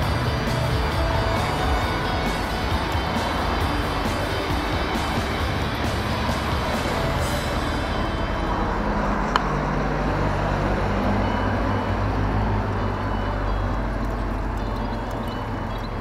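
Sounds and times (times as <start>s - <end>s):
engine-like hum: 0.0s - 16.0s
traffic rumble: 0.0s - 16.0s.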